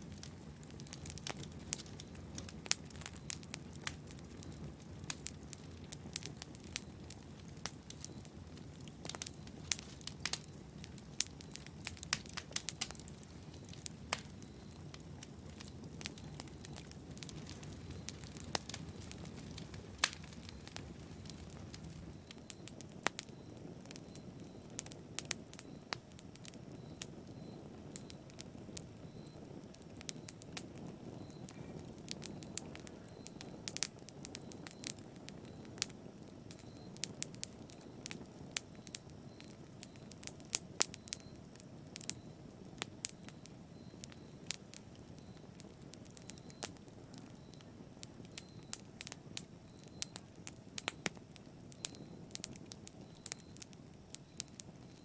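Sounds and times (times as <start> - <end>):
fire crackling and popping: 0.0 - 55.0
rumble of flames: 0.0 - 55.0.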